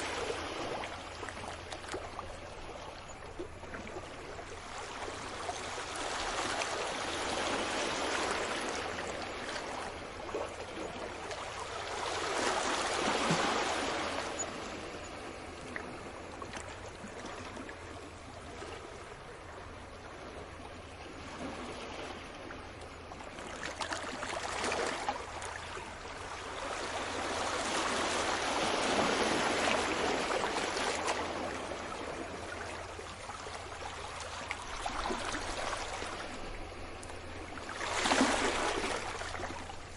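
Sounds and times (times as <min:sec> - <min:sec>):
sea waves on a shore: 0:00.0 - 0:39.9.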